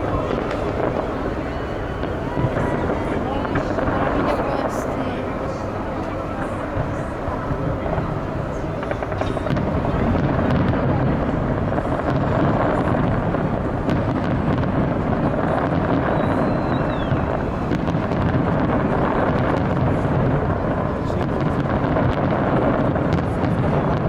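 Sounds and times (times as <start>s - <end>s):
crowd murmur: 0.0s - 24.0s
fireworks bursting and crackling: 0.0s - 24.0s.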